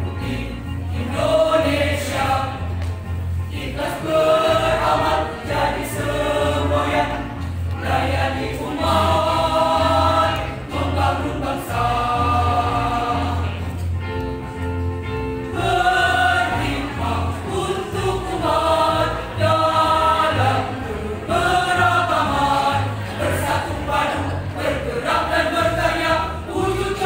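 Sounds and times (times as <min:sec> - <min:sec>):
mixed choir singing a march: 0:00.0 - 0:13.9, 0:15.4 - 0:27.0.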